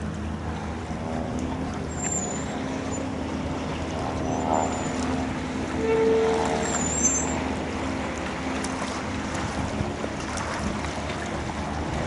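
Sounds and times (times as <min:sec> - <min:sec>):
outboard engine idling: 0:00.0 - 0:12.0.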